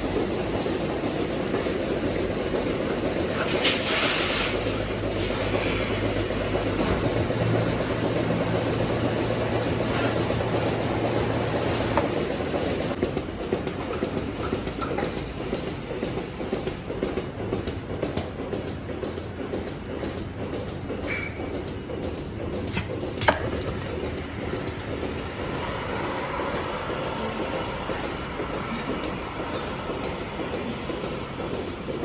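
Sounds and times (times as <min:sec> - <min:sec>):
machinery rumbling: 0:00.0 - 0:32.0.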